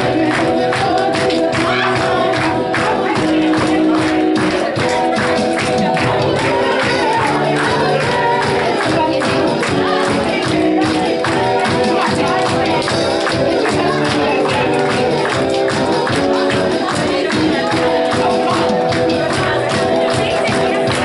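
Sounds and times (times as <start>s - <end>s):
people singing worship music: 0.0s - 21.0s
tambourine beat: 0.0s - 21.0s.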